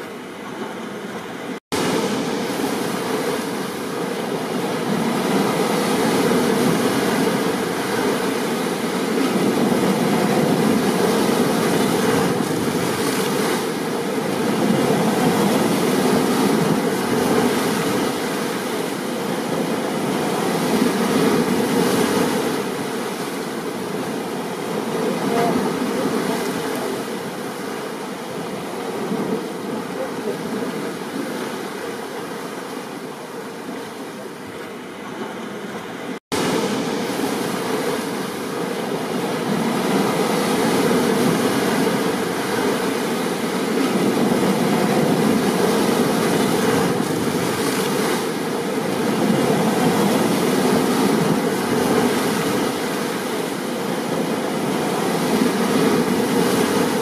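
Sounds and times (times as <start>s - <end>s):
ocean surf: 0.0s - 57.0s.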